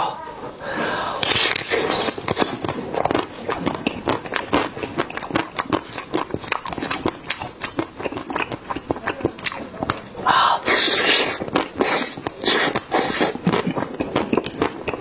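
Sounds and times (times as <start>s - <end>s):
wet chewing and mouth clicks: 1.2s - 15.0s.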